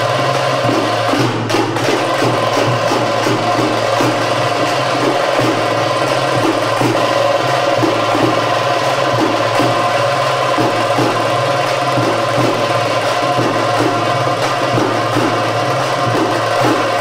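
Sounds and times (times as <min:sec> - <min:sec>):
percussion strokes: 0:00.0 - 0:17.0.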